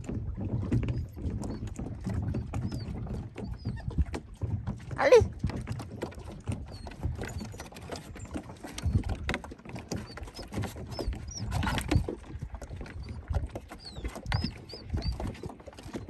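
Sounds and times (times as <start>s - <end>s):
water lapping against dock: 0.0s - 16.0s.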